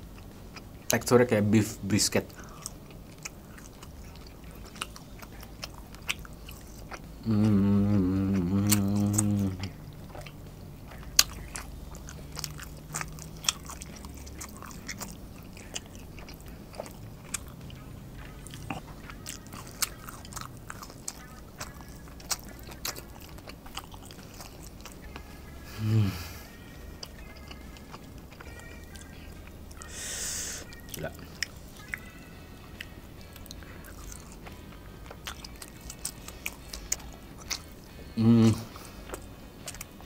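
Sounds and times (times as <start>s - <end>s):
chewing steak: 0.0s - 40.0s
low hummed vocal sound: 1.4s - 39.4s.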